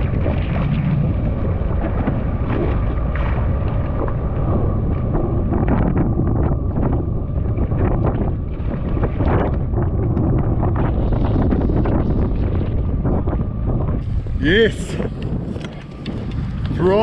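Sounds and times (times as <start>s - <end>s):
waves slapping against hull: 0.0s - 17.0s
wind buffeting microphone: 0.0s - 17.0s.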